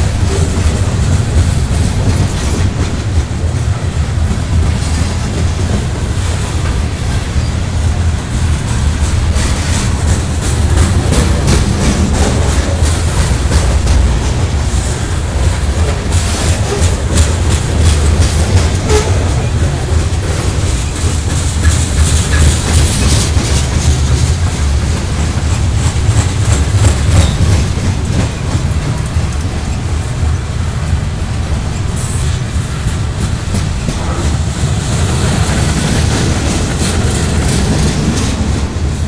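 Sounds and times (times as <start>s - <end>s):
freight train rumbling past: 0.0s - 39.0s
train wheels clicking over track: 0.0s - 39.0s.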